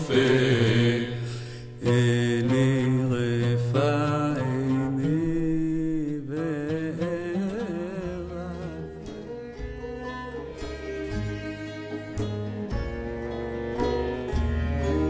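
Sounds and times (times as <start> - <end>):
slow melody with wide vibrato: 0.0 - 15.0.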